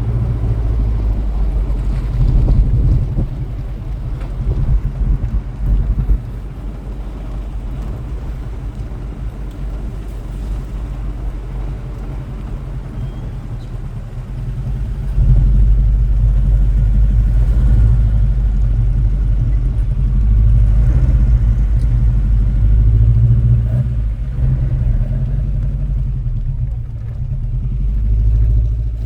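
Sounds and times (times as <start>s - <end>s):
car engine rumble: 0.0s - 29.0s.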